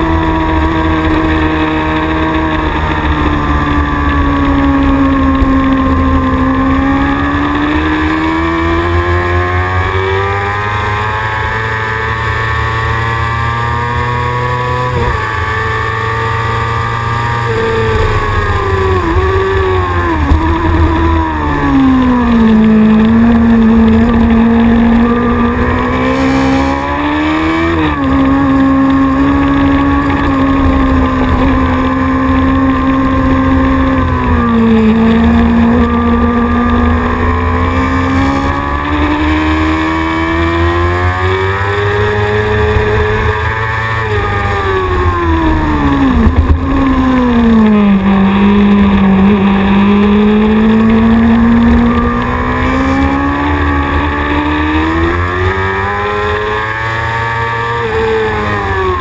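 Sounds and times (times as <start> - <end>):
racing motorcycle engine: 0.0 - 59.0.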